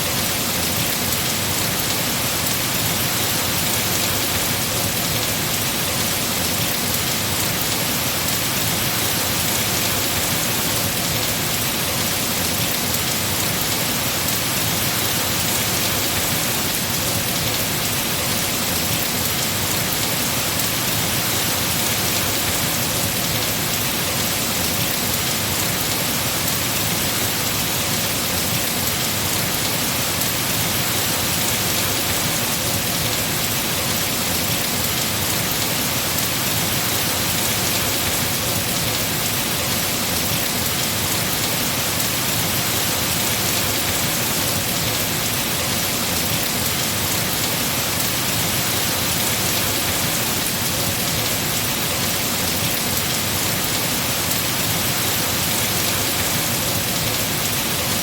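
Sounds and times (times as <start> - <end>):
heavy rain on trees: 0.0 - 58.0.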